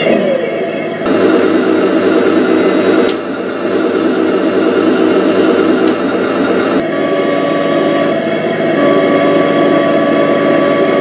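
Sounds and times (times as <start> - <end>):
simulated tank engine sound from speaker: 0.0 - 11.0.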